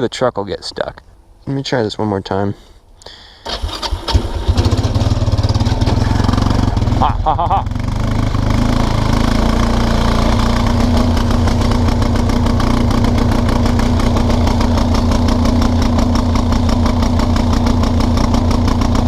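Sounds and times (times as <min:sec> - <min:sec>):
engine running steadily: 0:03.4 - 0:19.0.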